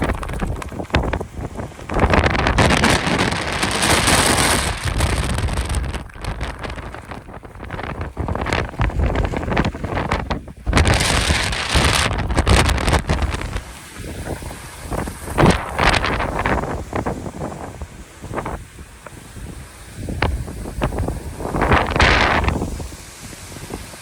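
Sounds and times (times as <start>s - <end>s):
strong wind gusting: 0.0s - 24.0s.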